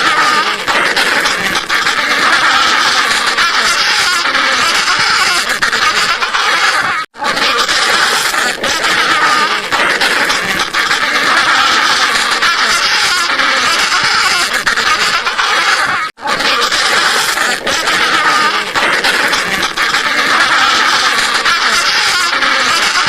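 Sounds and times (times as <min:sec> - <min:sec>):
penguins calling: 0:00.0 - 0:23.0.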